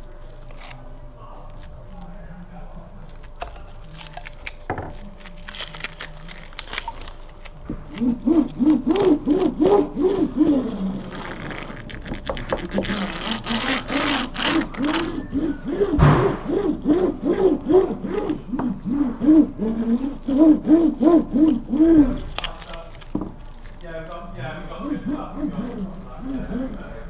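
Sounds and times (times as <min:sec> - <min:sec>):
laminating roller whirring: 0:04.5 - 0:27.0.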